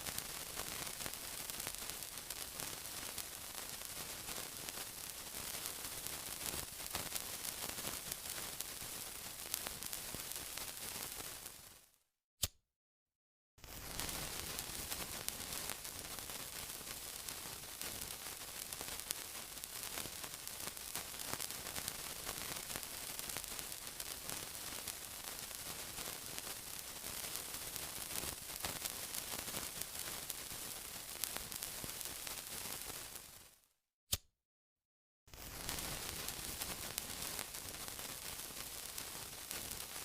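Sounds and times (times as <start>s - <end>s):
sizzling hiss with pops: 0.0s - 12.0s, 13.6s - 34.2s, 35.3s - 40.0s.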